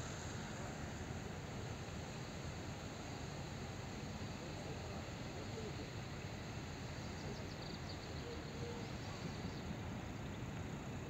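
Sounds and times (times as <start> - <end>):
distant steam locomotive rumble: 0.0 - 11.0.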